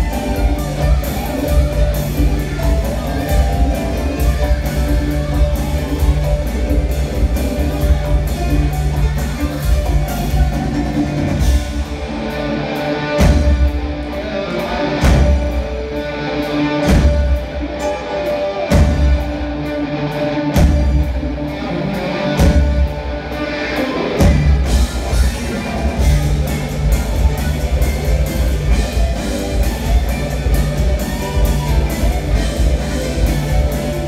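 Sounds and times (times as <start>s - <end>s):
drum kit: 0.0s - 34.0s
electric guitars: 0.0s - 34.0s.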